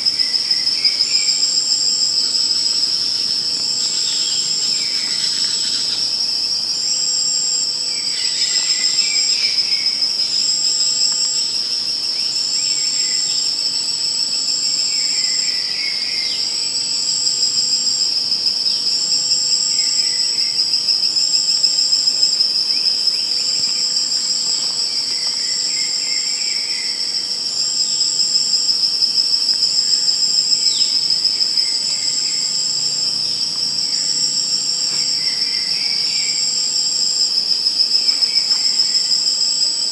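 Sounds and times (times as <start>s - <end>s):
crickets trilling: 0.0s - 39.9s
higher insect trill: 0.0s - 39.9s
soft low insect chirps: 0.0s - 39.9s.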